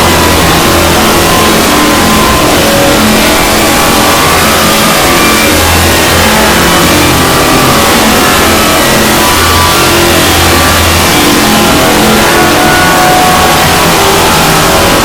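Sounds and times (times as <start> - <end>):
dense noise wash: 0.0 - 15.0
distorted buzzing tone: 0.0 - 15.0.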